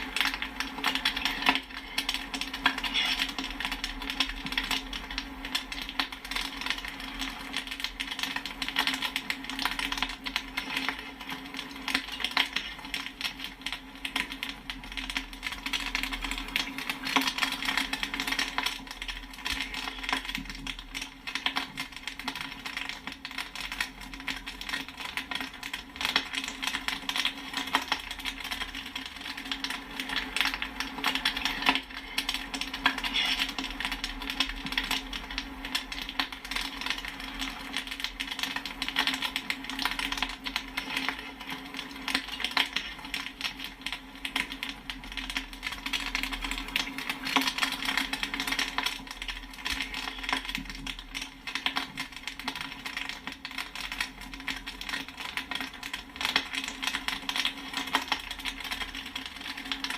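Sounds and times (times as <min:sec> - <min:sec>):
popcorn kernels popping: 0:00.0 - 0:59.9.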